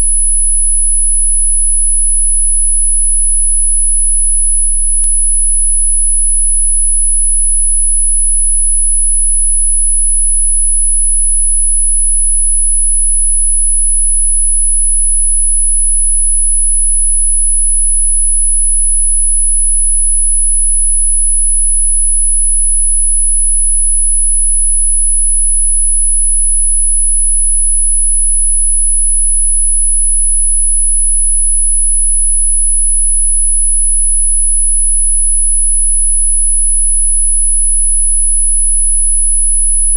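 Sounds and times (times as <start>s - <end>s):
high-pitched sine tone: 0.0s - 39.9s.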